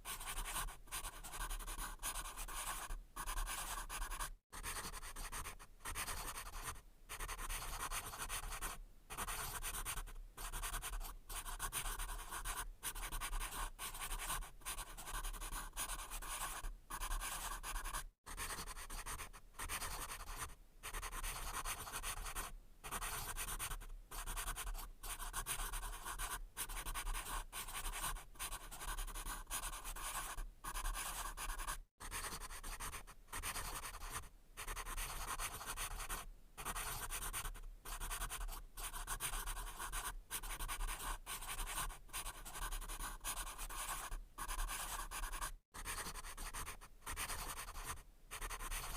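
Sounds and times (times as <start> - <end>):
pencil scratching on paper: 0.0 - 48.9.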